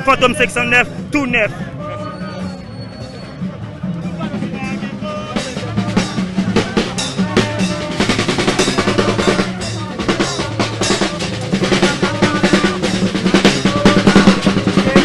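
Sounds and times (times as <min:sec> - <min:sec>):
drums playing fast beat: 0:00.0 - 0:01.5, 0:04.2 - 0:15.0.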